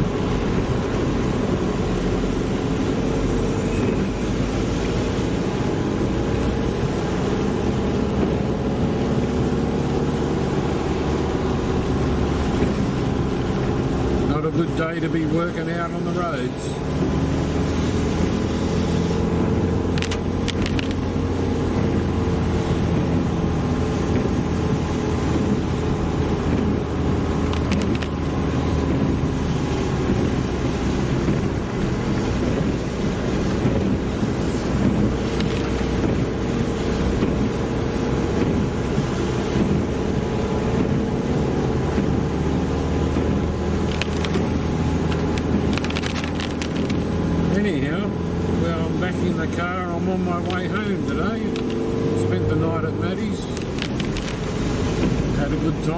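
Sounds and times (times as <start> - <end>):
engine and tyre drone: 0.0 - 55.9.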